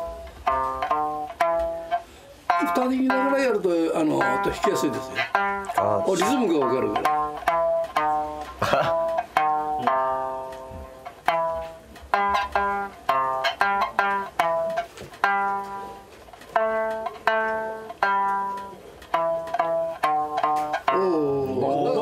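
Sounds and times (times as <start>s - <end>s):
plucked lute melody: 0.0s - 22.0s.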